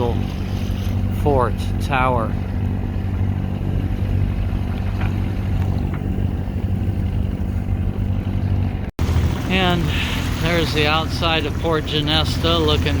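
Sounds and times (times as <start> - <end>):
boat engine drone: 0.0 - 13.0
water noise: 0.0 - 13.0
wind: 0.0 - 13.0.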